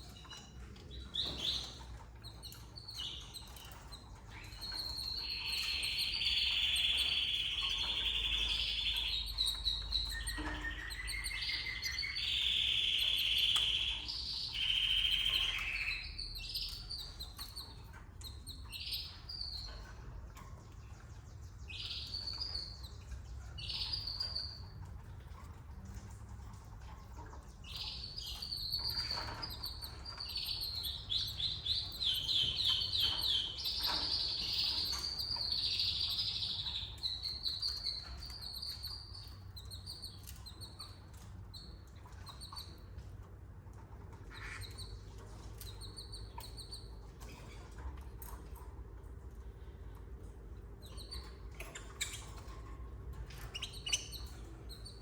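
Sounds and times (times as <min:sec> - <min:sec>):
canary singing: 0:00.0 - 0:26.6, 0:27.3 - 0:43.0, 0:44.1 - 0:48.8, 0:50.2 - 0:55.0.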